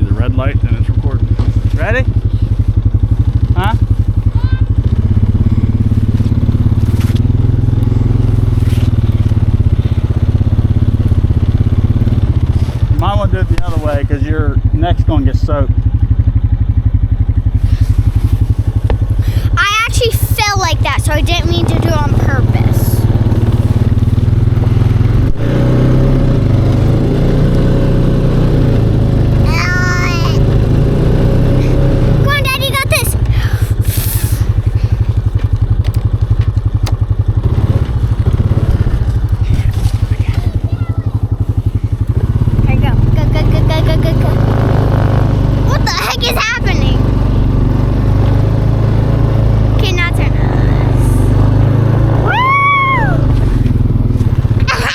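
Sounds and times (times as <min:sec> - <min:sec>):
four-wheeler engine running: 0:00.0 - 0:54.9.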